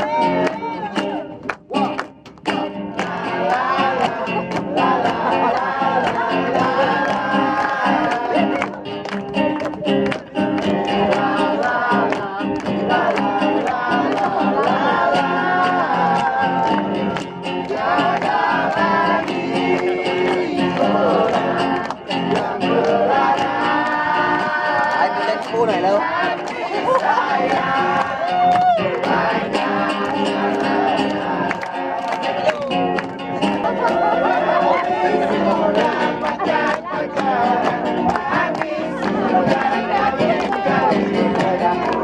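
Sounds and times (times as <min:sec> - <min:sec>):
song with singing and guitar: 0:00.0 - 0:42.0.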